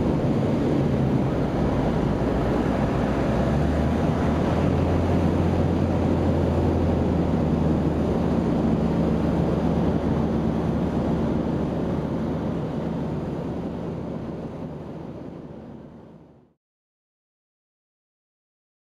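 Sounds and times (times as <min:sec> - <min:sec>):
rushing wind: 0:00.0 - 0:16.2
light aircraft engine drone: 0:00.0 - 0:16.6.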